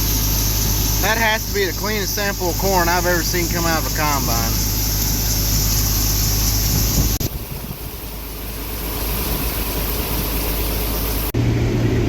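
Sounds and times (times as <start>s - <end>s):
combine harvester running: 0.0s - 12.0s
engine rumble: 0.0s - 12.0s.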